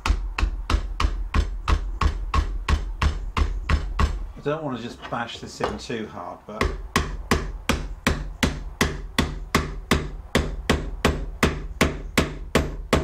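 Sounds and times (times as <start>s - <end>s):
hammer tapping wood joint: 0.0s - 4.2s, 6.6s - 13.0s.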